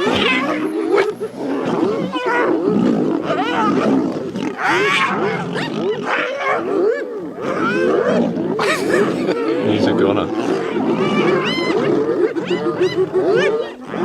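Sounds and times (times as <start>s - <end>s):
wild animals calling and growling: 0.0s - 14.0s.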